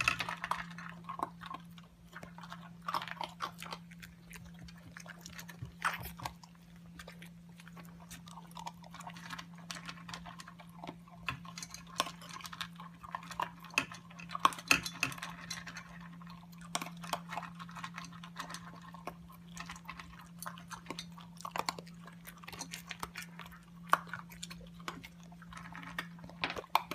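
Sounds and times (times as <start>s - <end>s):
dog crunching food: 0.0s - 26.9s.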